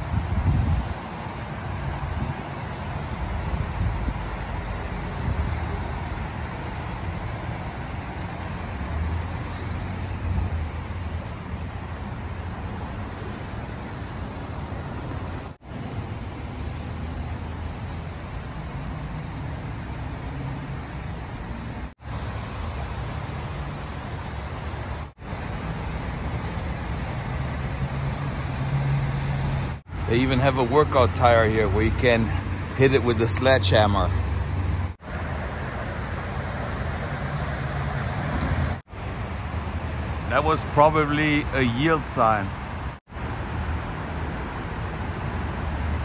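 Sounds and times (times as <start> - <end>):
traffic rumble on wet streets: 0.0 - 46.0
low engine hum: 1.5 - 38.8.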